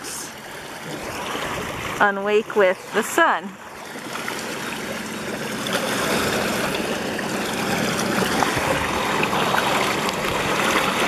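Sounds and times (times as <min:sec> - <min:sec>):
water churning and splashing: 0:00.0 - 0:11.0.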